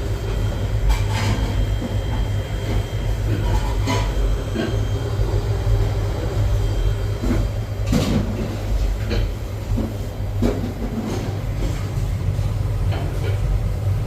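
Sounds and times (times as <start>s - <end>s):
refrigeration unit humming: 0.0s - 14.0s.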